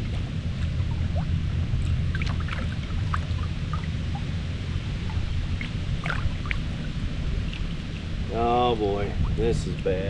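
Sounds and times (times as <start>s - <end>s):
waves lapping against kayak hull: 0.0s - 10.0s
wind buffeting microphone: 0.0s - 10.0s.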